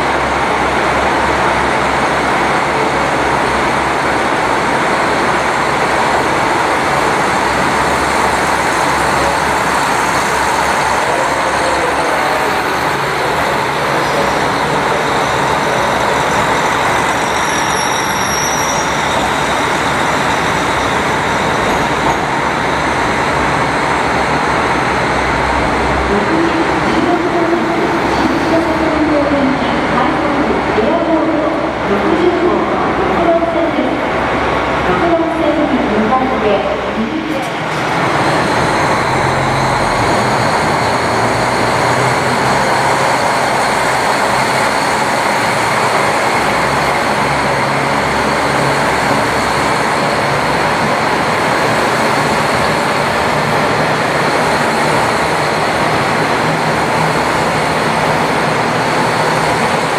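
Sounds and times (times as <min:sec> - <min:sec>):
train rumble and hiss: 0:00.0 - 0:59.9.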